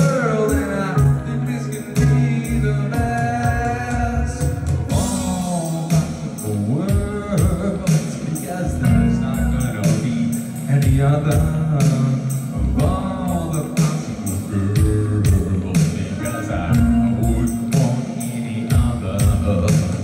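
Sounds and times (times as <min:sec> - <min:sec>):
live band playing: 0:00.0 - 0:20.0
person singing: 0:00.0 - 0:20.0.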